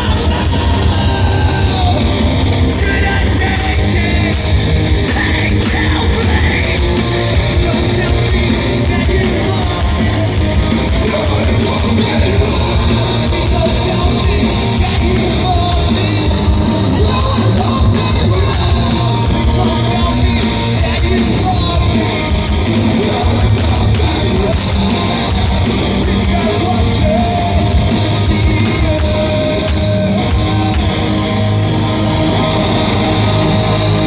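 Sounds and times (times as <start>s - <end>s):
live heavy rock band: 0.0s - 34.0s.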